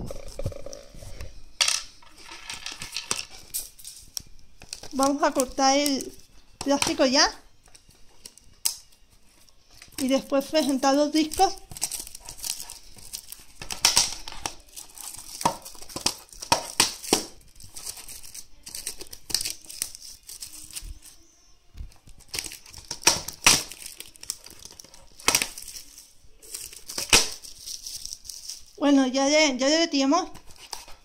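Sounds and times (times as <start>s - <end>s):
plastic wrap crinkling and tearing: 2.0s - 28.8s, 30.3s - 31.0s.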